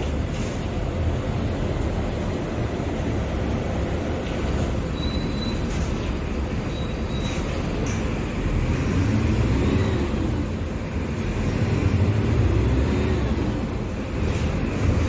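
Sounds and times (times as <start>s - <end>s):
diesel bus engine rumbling: 0.0s - 15.0s.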